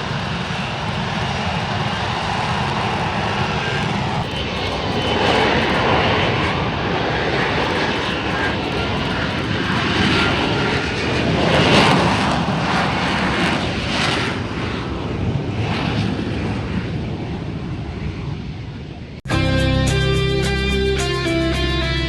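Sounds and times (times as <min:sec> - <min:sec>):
plane flying past: 0:00.0 - 0:19.1.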